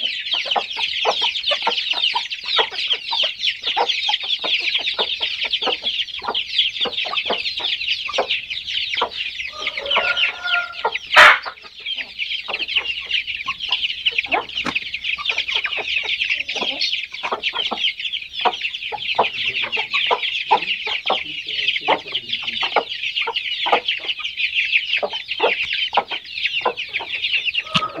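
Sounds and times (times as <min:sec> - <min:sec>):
chicks peeping: 0:00.0 - 0:28.0
young birds clucking: 0:00.0 - 0:28.0.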